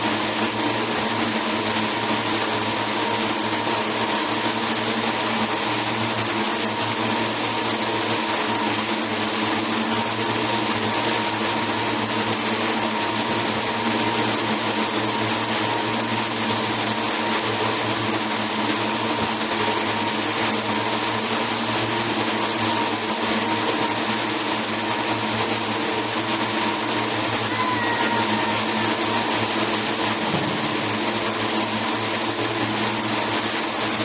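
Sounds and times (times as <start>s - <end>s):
spinning machines droning: 0.0s - 34.0s.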